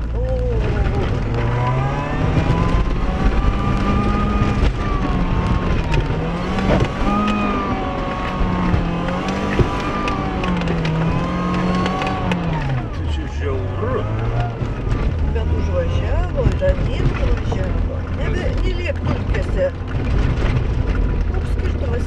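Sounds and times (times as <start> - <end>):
car engine revving under load: 0.0 - 22.0
car knocking over rough track: 0.0 - 22.0.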